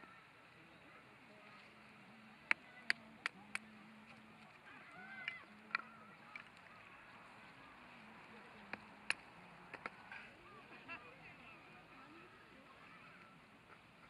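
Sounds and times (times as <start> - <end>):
campfire crackling: 0.1 - 14.0.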